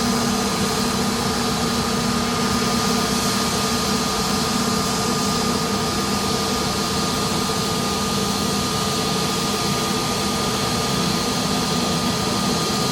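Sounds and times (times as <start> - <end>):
jet engines whining: 0.0 - 12.9.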